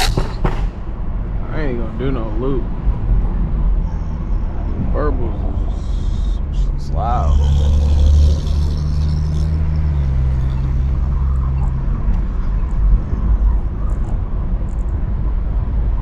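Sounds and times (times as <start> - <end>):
car exhaust drone: 0.0 - 16.0.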